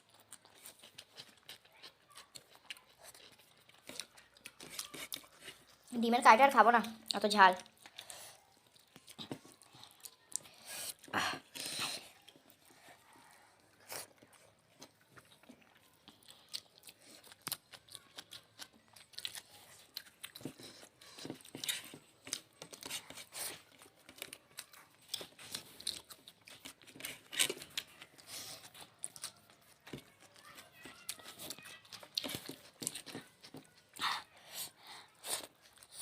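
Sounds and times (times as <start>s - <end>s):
chewing and crunching food: 0.0s - 36.0s.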